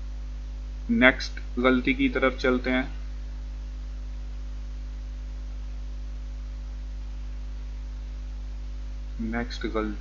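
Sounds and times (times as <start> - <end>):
electrical mains hum: 0.0 - 10.0
faint hiss: 0.0 - 10.0.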